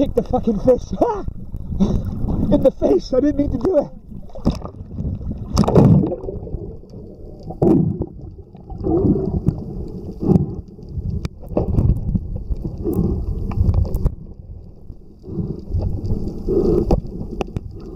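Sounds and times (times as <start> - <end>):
water gurgling and sloshing: 0.0 - 17.9.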